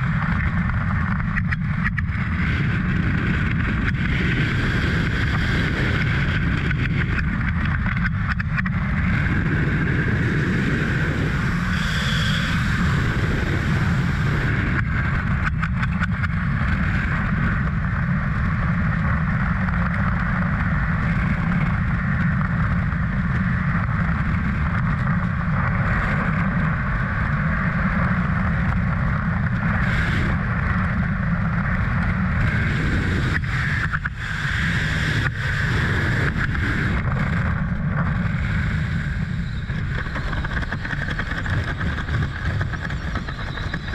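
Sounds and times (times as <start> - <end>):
freefall wind rushing over microphone: 0.0 - 43.9.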